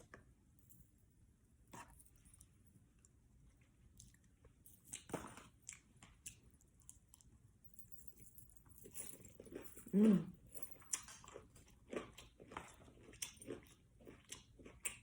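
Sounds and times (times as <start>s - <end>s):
faint chewing: 1.7s - 7.5s, 8.3s - 15.0s.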